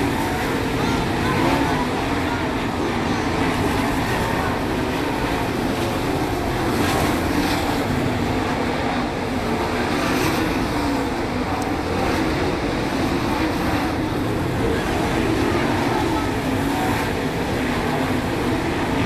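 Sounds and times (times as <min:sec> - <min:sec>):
race car engines roaring: 0:00.0 - 0:19.0.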